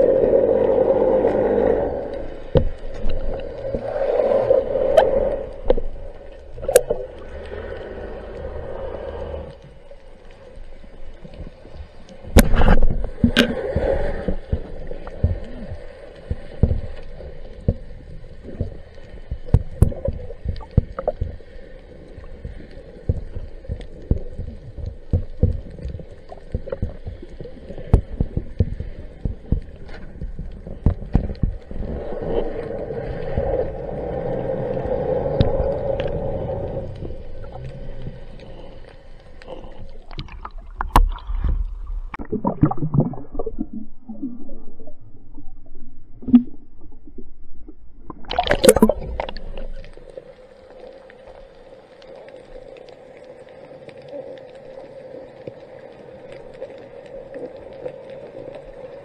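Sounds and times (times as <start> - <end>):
bubbling and splashing: 0.0 - 59.0.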